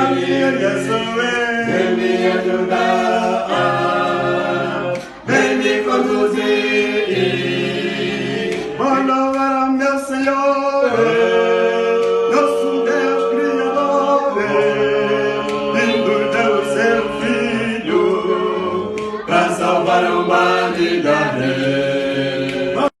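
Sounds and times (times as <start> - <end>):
group singing a cappella: 0.0 - 23.0.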